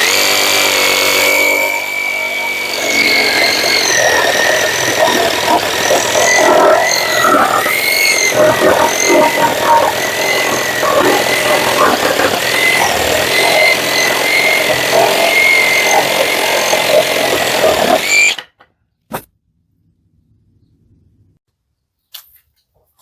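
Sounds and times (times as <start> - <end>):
reciprocating saw cutting wood: 0.0 - 18.4.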